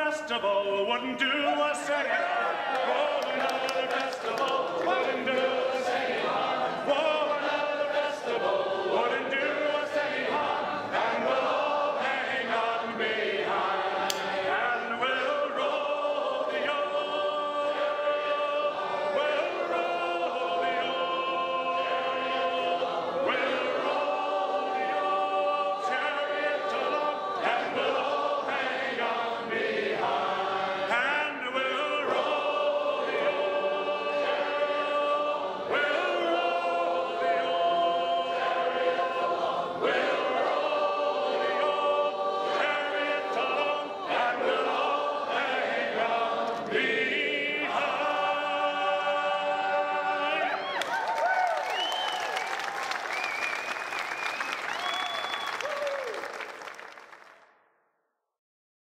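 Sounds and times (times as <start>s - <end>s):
group of voices singing: 0.0s - 52.5s.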